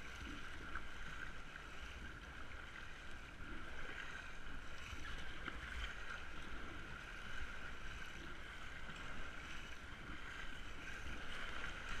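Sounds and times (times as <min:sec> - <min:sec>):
water noise: 0:00.0 - 0:12.0
wind rumbling on microphone: 0:00.0 - 0:12.0.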